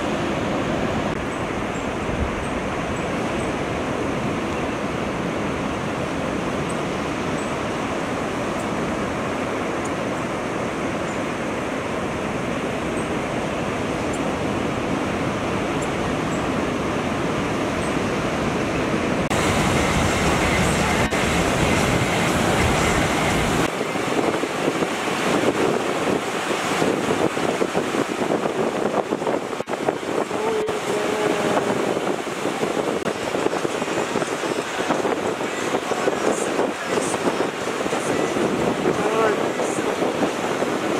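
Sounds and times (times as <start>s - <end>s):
ocean surf breaking: 0.0s - 40.9s
wind buffeting microphone: 0.0s - 40.9s.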